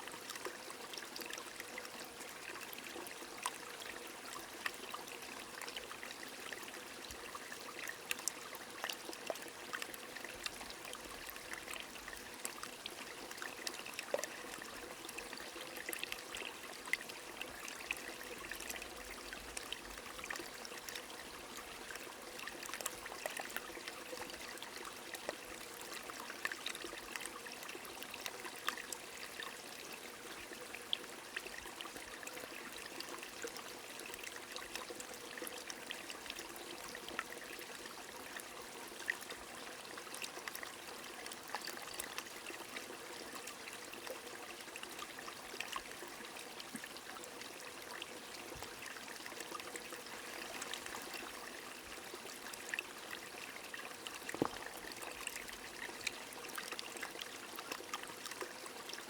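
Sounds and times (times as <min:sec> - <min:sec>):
running stream: 0:00.0 - 0:59.0.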